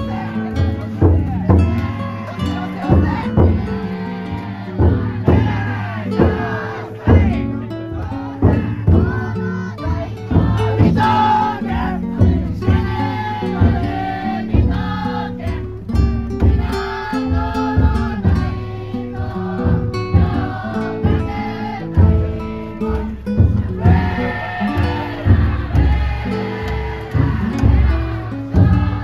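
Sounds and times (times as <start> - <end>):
crowd and children singing: 0.0 - 29.0
drum beaten in steady rhythm: 0.0 - 29.0.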